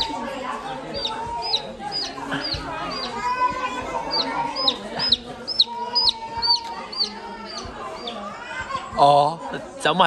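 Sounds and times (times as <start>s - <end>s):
baby chicks peeping: 0.0s - 9.2s.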